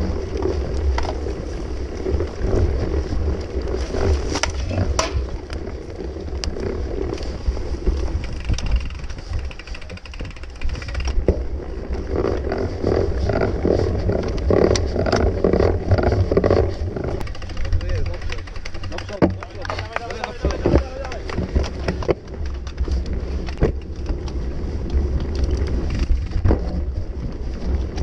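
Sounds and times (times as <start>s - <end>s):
bike rattling and clicking: 0.0s - 28.0s
wind buffeting microphone: 0.0s - 28.0s.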